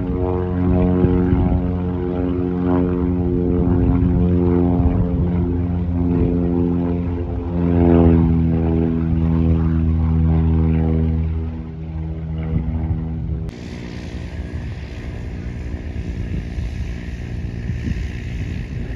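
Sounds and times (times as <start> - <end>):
propeller airplane engine droning: 0.0 - 18.9.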